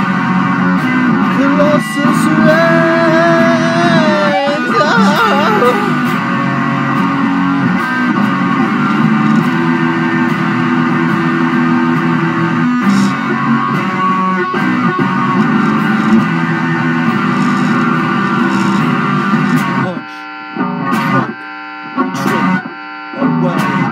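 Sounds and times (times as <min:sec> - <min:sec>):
instrumental psychedelic rock: 0:00.0 - 0:23.9.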